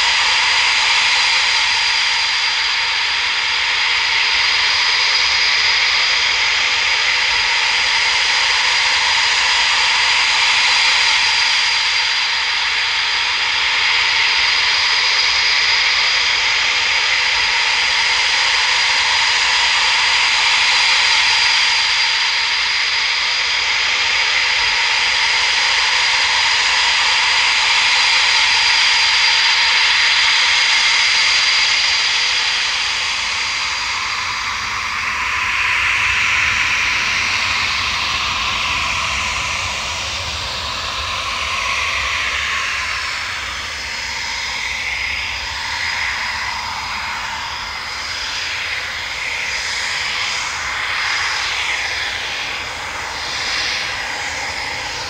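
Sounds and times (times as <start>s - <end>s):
jet engines high whine: 0.0s - 55.0s.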